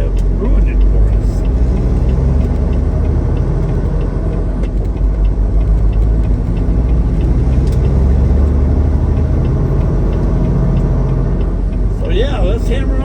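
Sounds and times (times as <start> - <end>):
faint regular ticking: 0.0 - 13.0
road noise: 0.0 - 13.0
truck engine drone: 0.0 - 13.0.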